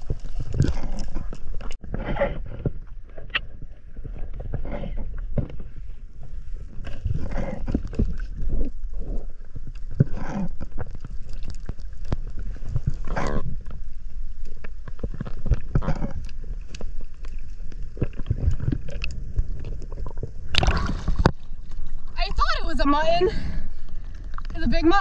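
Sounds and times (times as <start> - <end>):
underwater clicks and bubbling: 0.0 - 25.0
underwater rumble: 0.0 - 25.0.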